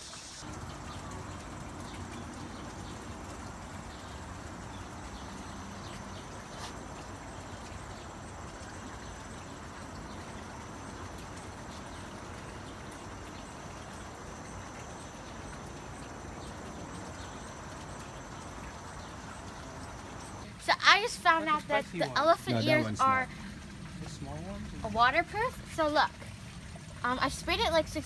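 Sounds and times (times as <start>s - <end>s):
outdoor background noise: 0.0s - 28.0s
faint insect trill: 0.5s - 23.4s.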